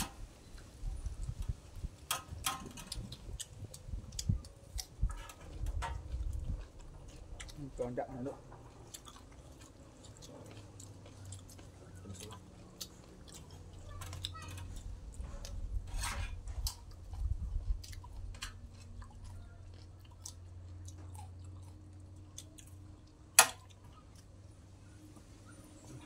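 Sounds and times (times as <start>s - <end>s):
chewing: 0.5s - 26.0s.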